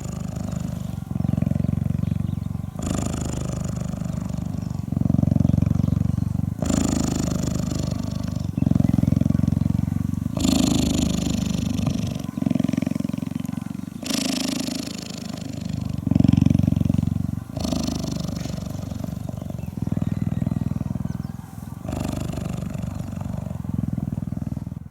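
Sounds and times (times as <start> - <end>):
cheetah purring: 0.0 - 24.9.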